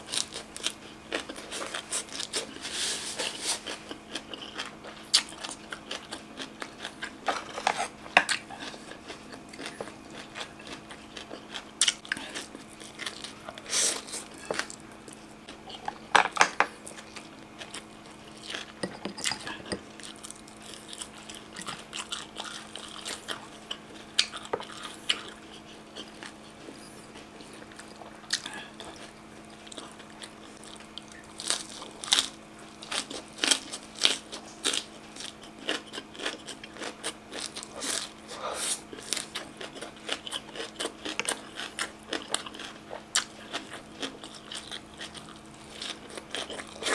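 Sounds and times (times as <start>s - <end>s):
wet chewing with crunchy bites: 0.0s - 16.0s, 16.7s - 46.9s
faint steady hum: 0.0s - 46.9s.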